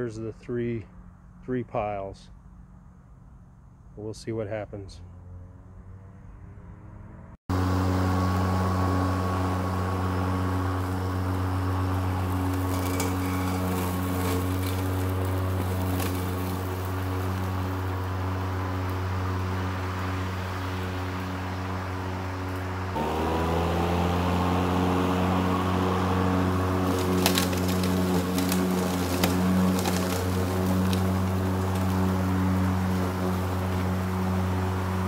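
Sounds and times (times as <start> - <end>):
electric lawn mower humming: 5.2 - 35.0.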